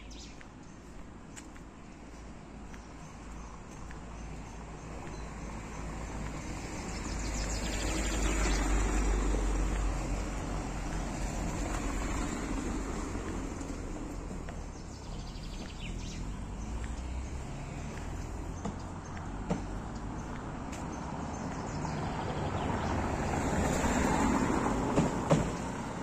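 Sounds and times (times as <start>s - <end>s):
motor vehicle passing: 3.3s - 26.0s.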